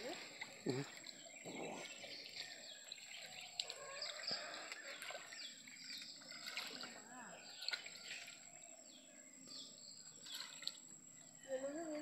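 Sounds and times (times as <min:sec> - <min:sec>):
water splashing: 0:00.0 - 0:08.6, 0:10.0 - 0:11.1
birds chirping: 0:00.0 - 0:12.0.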